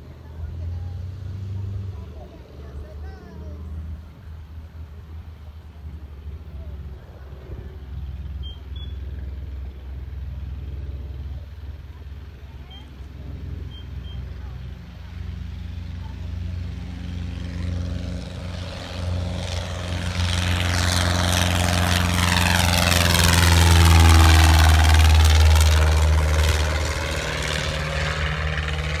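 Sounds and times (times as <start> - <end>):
light plane engine and propeller: 0.0 - 29.0.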